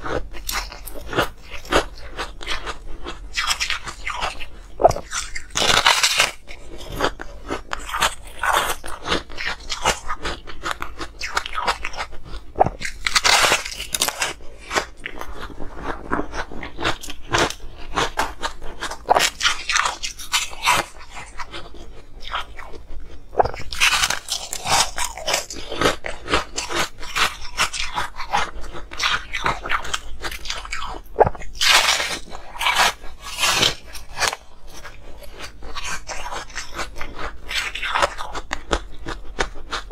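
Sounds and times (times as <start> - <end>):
chewing ice crunching: 0.0 - 39.9.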